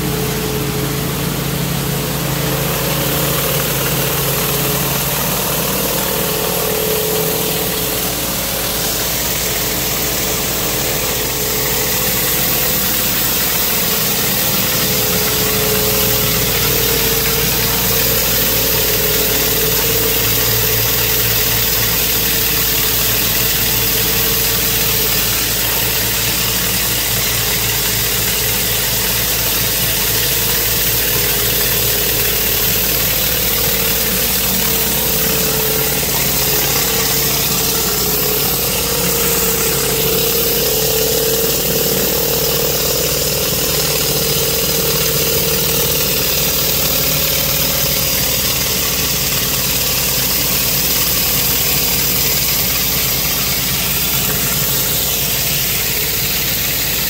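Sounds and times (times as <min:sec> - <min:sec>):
pressure washer engine running: 0:00.0 - 0:57.0
steady whine: 0:00.0 - 0:57.0
surface cleaner water jets hissing: 0:00.0 - 0:57.0.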